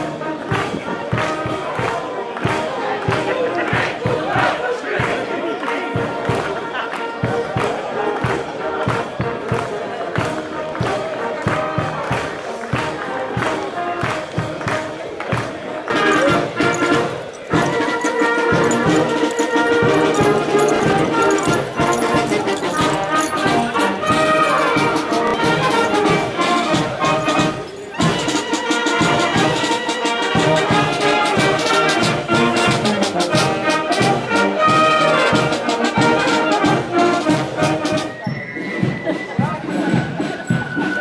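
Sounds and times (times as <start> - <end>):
brass band playing: 0.0 - 41.0.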